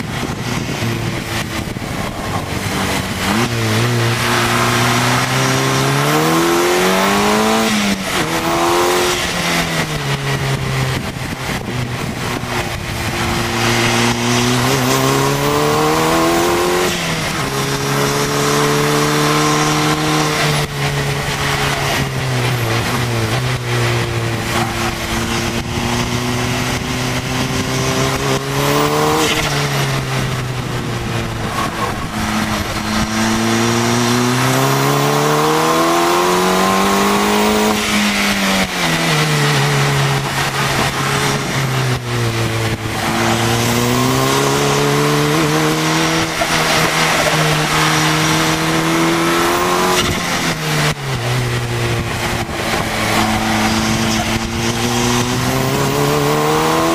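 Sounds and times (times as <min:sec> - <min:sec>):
car engine accelerating and braking: 0:00.0 - 0:56.9
heavy wind rush: 0:00.0 - 0:56.9.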